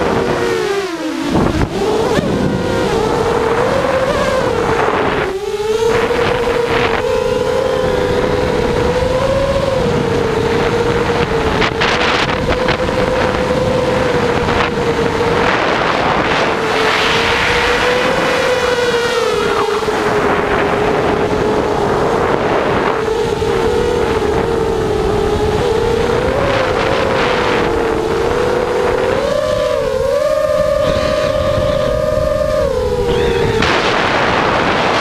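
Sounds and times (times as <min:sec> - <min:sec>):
quadcopter propellers buzzing: 0:00.0 - 0:35.0
wind on microphone: 0:00.0 - 0:35.0.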